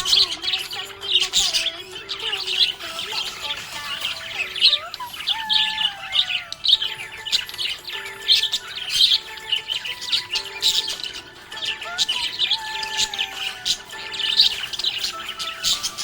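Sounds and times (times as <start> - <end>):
budgerigars chirping and chattering: 0.0 - 16.0.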